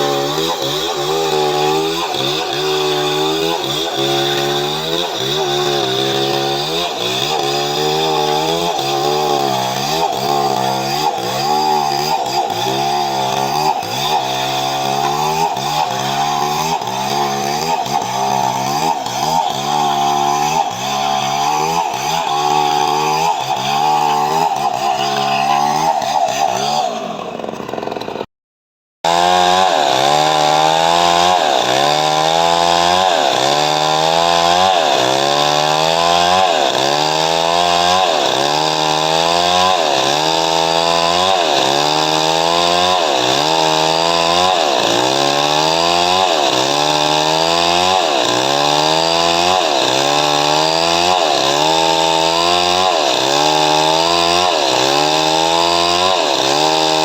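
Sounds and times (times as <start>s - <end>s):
chainsaw cutting wood: 0.0s - 28.3s, 29.0s - 57.0s.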